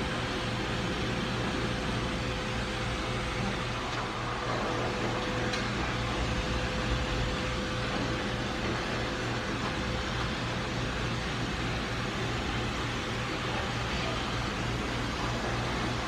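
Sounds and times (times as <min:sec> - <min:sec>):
pet dryer blowing air: 0:00.0 - 0:16.0.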